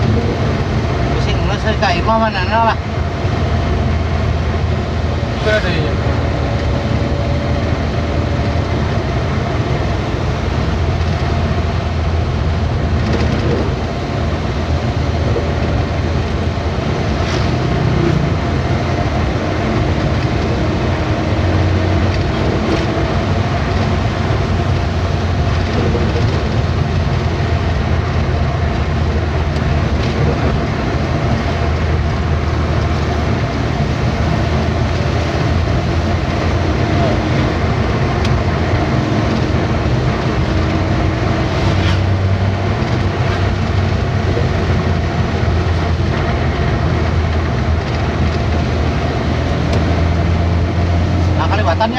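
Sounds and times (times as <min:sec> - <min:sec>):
road and tyre noise: 0:00.0 - 0:51.9
truck engine drone: 0:00.0 - 0:51.9.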